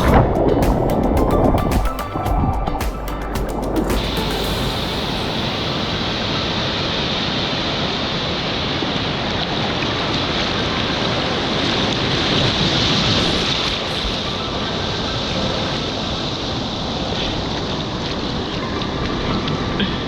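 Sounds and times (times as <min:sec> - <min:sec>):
ocean surf rushing: 0:00.0 - 0:19.8.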